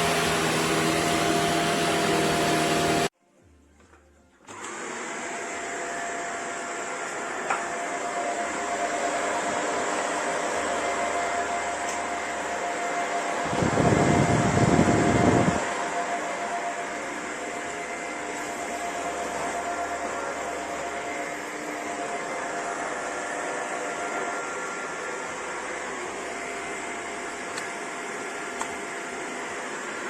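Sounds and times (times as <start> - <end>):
vacuum cleaner motor whine: 0.0 - 3.1, 4.5 - 30.0.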